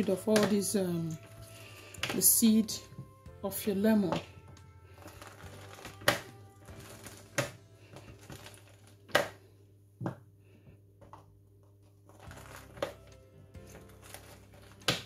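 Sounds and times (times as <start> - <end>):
faint background music: 0.0 - 9.6, 11.9 - 15.0.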